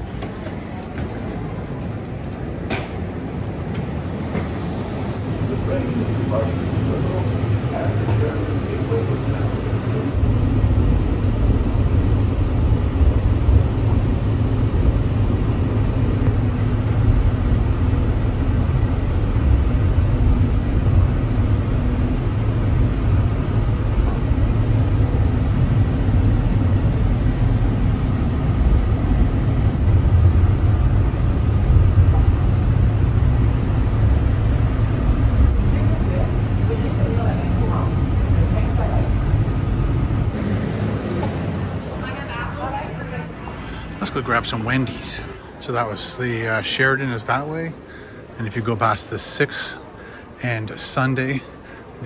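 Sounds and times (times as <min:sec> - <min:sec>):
train interior rumble and hum: 0:00.0 - 0:52.0.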